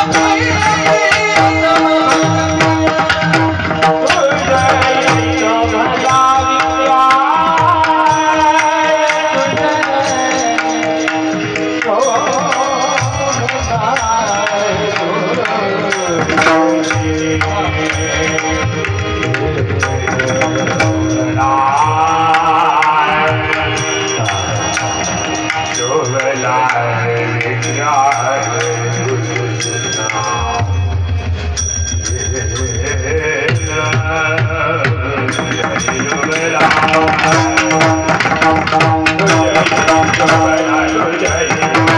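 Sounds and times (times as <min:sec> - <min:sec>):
devotional singing: 0:00.0 - 0:31.1, 0:32.1 - 0:41.9
percussion accompaniment: 0:00.0 - 0:41.9.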